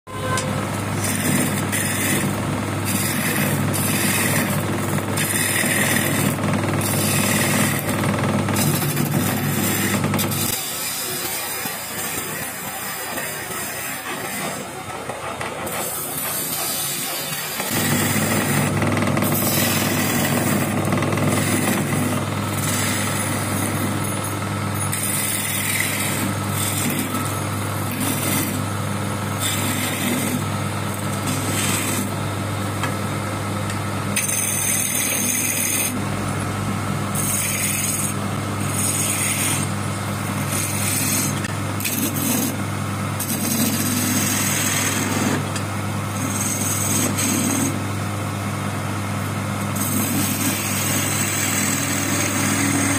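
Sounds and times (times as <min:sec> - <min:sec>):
chisel scraping spinning wood: 0:00.1 - 0:48.0, 0:49.6 - 0:52.9
lathe motor hum: 0:00.1 - 0:52.9.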